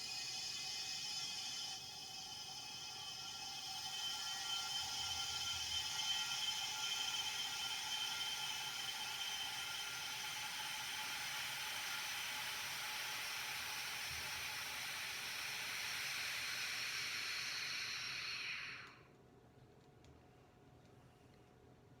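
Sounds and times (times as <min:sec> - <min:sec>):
vacuum pump hissing: 0:00.0 - 0:19.0.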